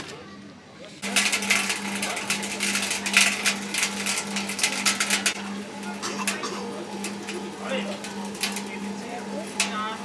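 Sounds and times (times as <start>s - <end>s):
cotton candy machine humming: 0.0s - 10.0s.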